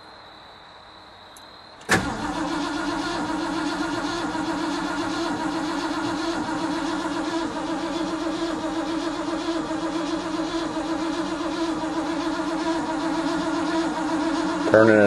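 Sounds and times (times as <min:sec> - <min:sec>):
engine cranking without firing: 0:01.8 - 0:15.0.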